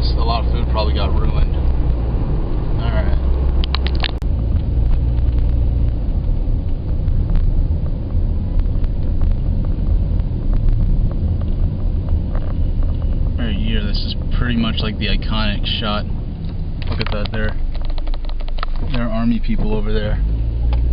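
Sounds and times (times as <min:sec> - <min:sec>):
low outdoor rumble: 0:00.0 - 0:20.9.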